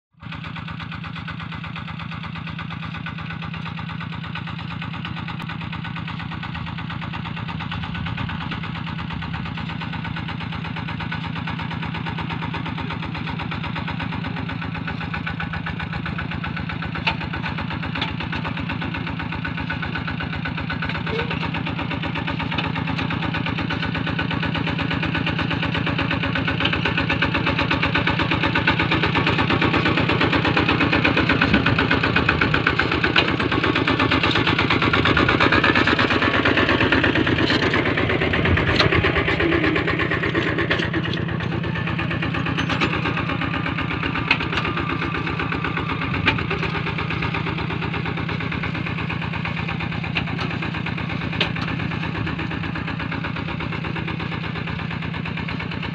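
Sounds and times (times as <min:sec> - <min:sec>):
diesel tractor engine running: 0:00.2 - 0:55.9.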